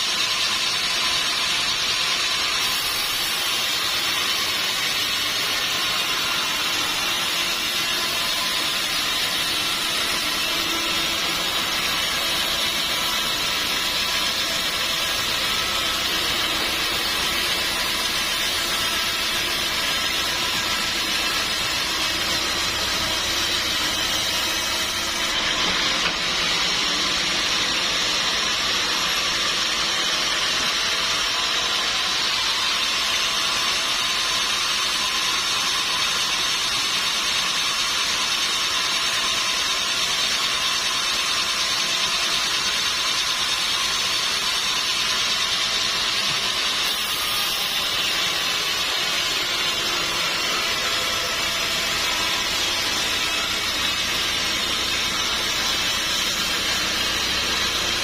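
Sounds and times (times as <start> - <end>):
saw cutting through wood: 0.0 - 58.0.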